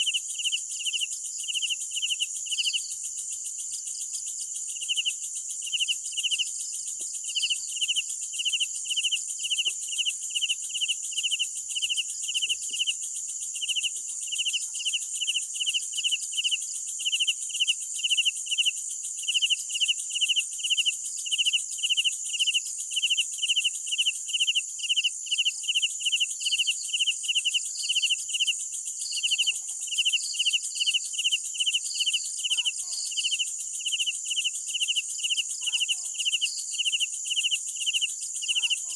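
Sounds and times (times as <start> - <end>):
crickets chirping: 0.0 - 38.9
high-pitched insect trill: 0.0 - 38.9.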